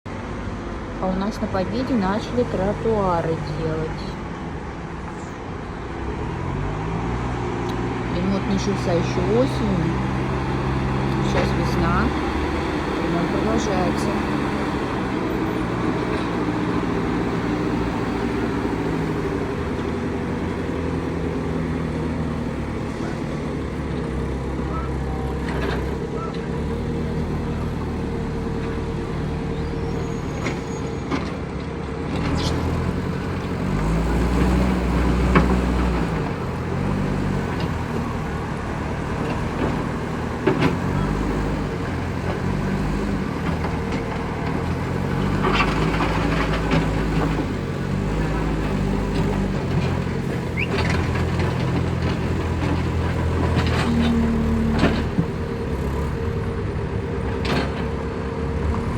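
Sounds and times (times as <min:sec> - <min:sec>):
heavy vehicle engines running: 0:00.0 - 0:58.9.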